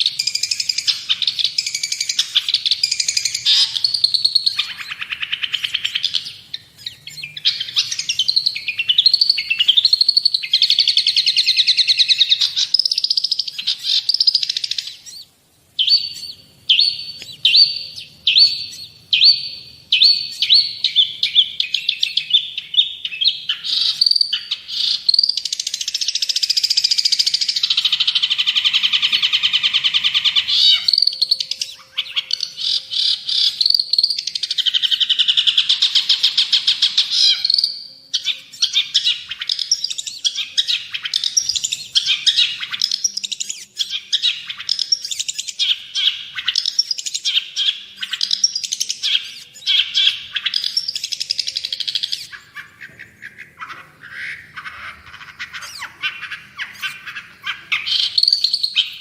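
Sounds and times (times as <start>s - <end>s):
shrike singing chattering song: 0.0s - 59.0s.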